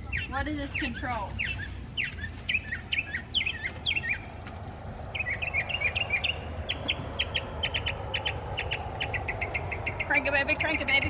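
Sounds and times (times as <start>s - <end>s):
low outdoor rumble: 0.0s - 11.0s
songbirds chirping: 0.0s - 11.0s.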